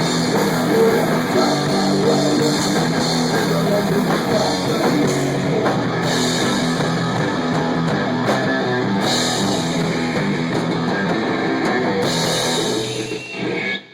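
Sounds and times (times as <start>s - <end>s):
electric guitar: 0.0s - 13.9s
rock band playing: 0.0s - 13.9s.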